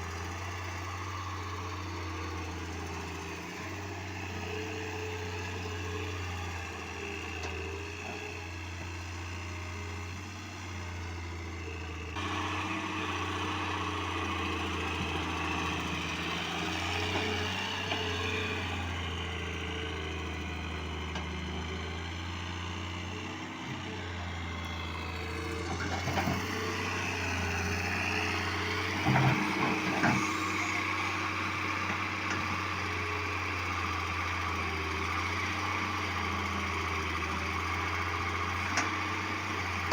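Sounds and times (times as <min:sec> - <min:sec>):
heavy machinery engine humming: 0:00.0 - 0:39.9.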